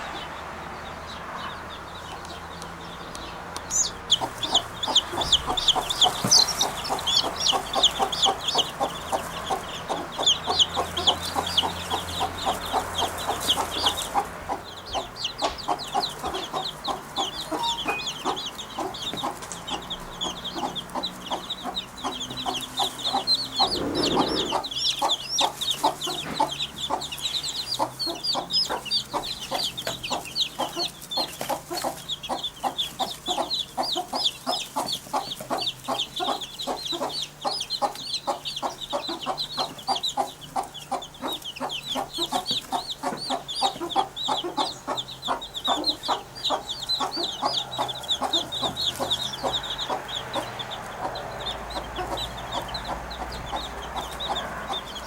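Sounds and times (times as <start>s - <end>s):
birds chirping and clucking: 0.0s - 55.0s.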